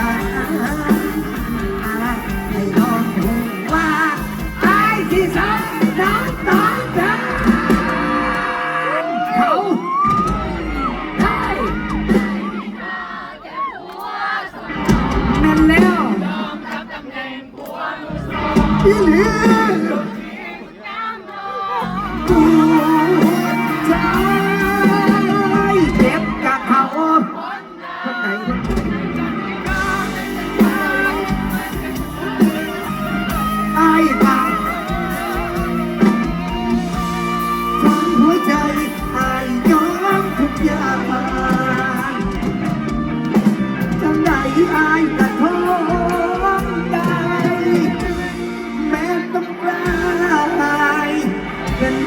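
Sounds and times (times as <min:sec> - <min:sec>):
live folk band music: 0:00.0 - 0:09.2, 0:09.8 - 0:13.2, 0:18.1 - 0:20.6, 0:21.8 - 0:27.1, 0:27.9 - 0:52.0
person singing: 0:00.0 - 0:13.1, 0:18.1 - 0:52.0.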